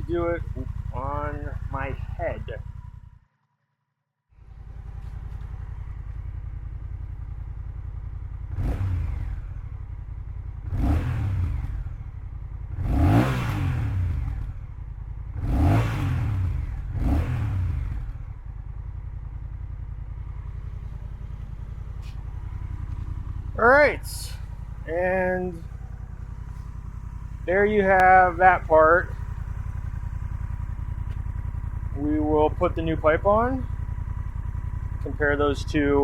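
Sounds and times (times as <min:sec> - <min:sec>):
motorcycle engine idling and revving: 0:00.0 - 0:03.5, 0:04.3 - 0:36.0.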